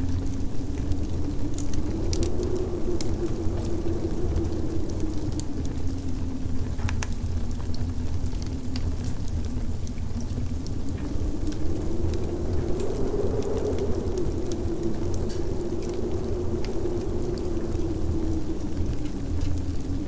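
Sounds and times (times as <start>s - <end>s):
low rumbling noise: 0.0s - 20.0s
sharp crackles: 0.0s - 20.0s.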